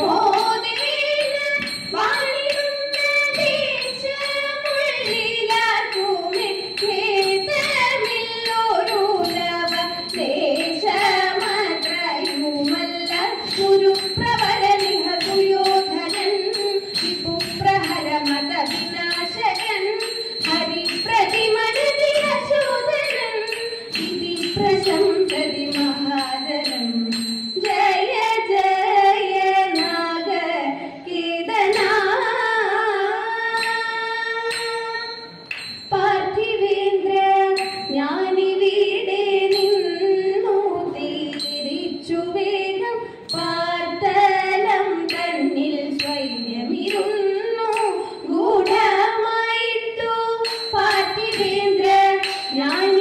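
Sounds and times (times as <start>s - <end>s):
women singing: 0.0s - 53.0s.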